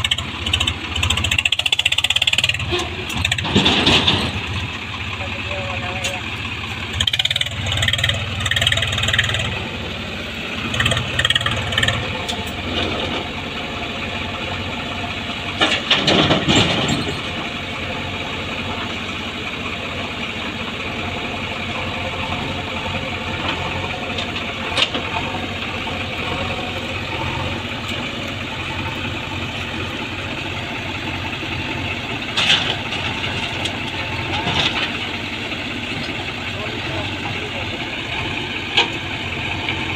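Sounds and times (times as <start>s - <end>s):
diesel machinery engines running: 0.0s - 39.9s.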